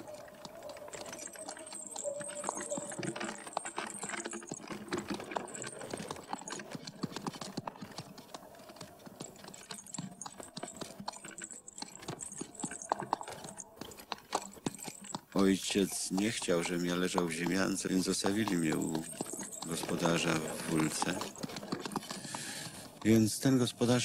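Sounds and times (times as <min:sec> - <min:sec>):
horse hooves clopping: 0:00.0 - 0:24.0
horse-drawn wagon rattling: 0:00.0 - 0:24.0.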